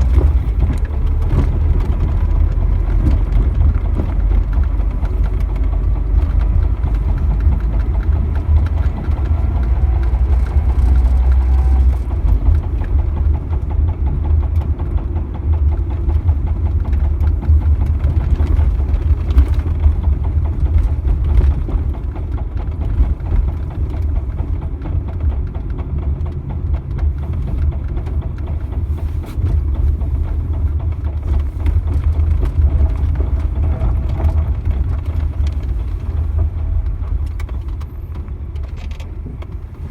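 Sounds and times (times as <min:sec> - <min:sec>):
car engine low rumble: 0:00.0 - 0:39.9
rhythmic knocking from wheel: 0:00.0 - 0:39.9.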